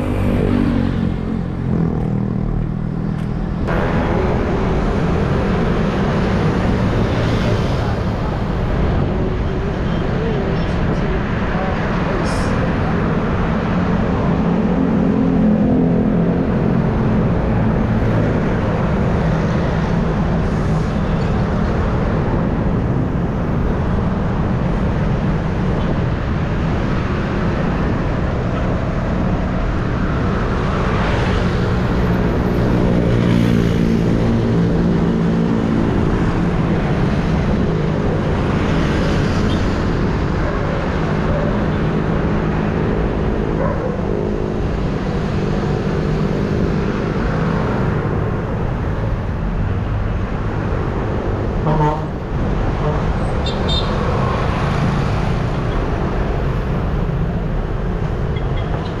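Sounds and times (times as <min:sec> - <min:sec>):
traffic going by: 0:00.0 - 0:59.0
vehicle engines humming: 0:00.0 - 0:59.0.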